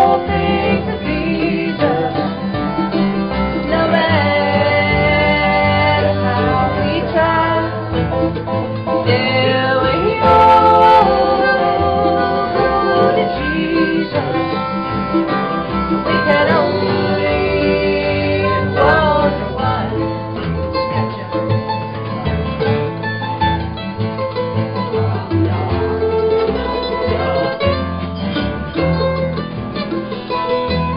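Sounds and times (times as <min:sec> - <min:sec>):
acoustic guitar: 0:00.0 - 0:30.9
mandolin: 0:00.0 - 0:30.9
upright bass line: 0:00.0 - 0:30.9.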